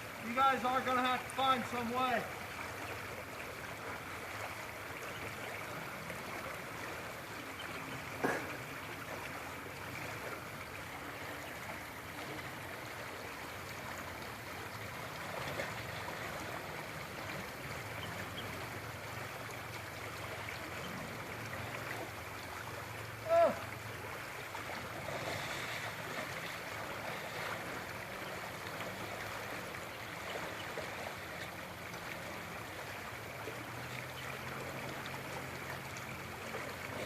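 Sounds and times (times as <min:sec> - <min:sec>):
creek water rushing: 0:00.0 - 0:37.0.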